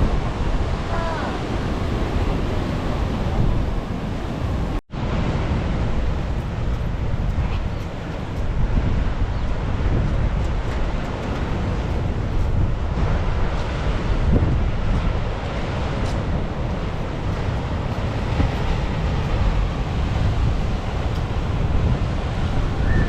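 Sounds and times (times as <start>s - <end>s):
rough surf rushing: 0.0s - 23.0s
wind buffeting microphone: 0.0s - 23.0s.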